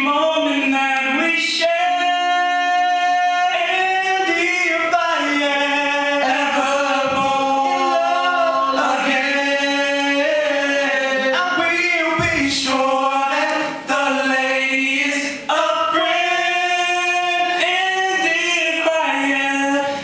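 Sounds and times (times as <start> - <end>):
men singing in close harmony: 0.0 - 20.0.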